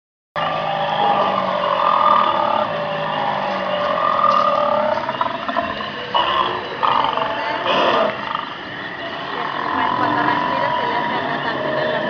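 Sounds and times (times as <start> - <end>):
dinosaur growl over loudspeaker: 0.4 - 12.0.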